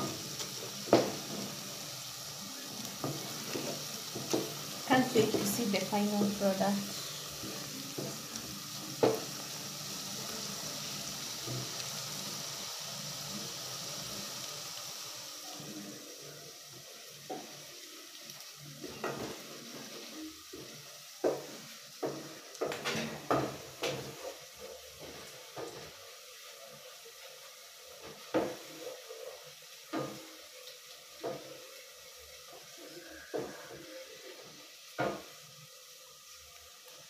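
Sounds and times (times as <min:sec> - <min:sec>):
onions sizzling faintly in pot: 0:00.0 - 0:37.0.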